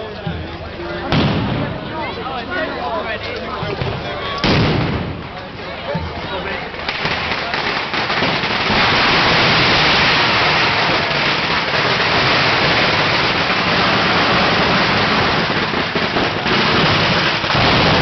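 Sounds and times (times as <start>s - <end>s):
fireworks crackling: 1.0s - 2.5s, 3.1s - 18.0s.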